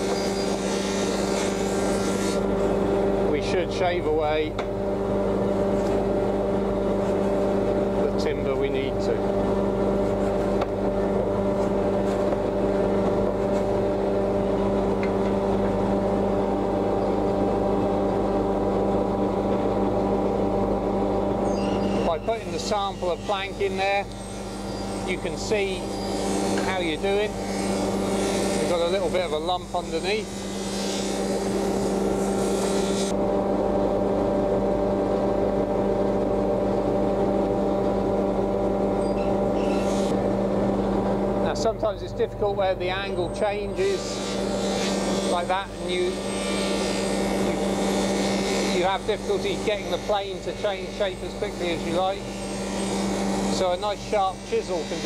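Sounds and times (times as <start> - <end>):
mechanical hum: 0.0 - 55.0.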